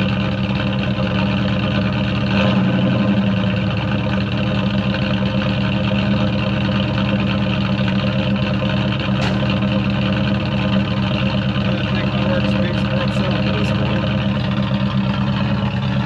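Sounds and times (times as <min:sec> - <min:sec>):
pickup engine idling: 0:00.0 - 0:16.0.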